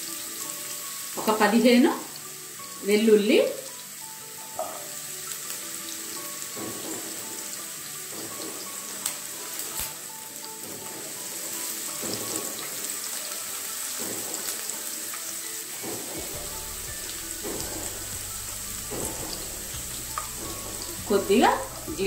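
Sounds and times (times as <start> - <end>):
onion and garlic sizzling in oil: 0.0 - 22.0.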